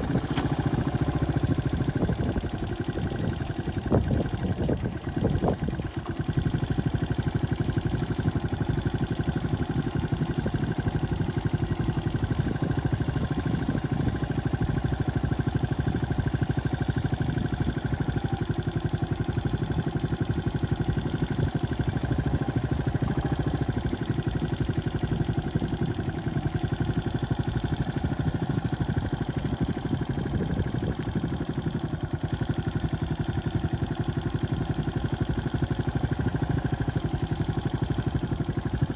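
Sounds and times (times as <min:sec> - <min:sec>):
small engine running at low revs: 0:00.0 - 0:38.9.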